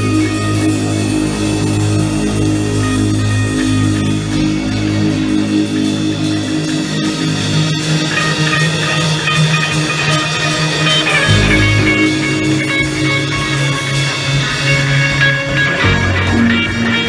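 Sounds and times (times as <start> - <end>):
sustained bass notes: 0.0 - 9.5, 10.8 - 17.0
guitar: 0.0 - 17.0.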